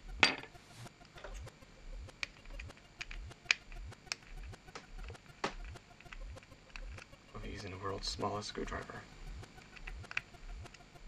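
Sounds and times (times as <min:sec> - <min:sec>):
faint low throb: 0:00.0 - 0:11.0.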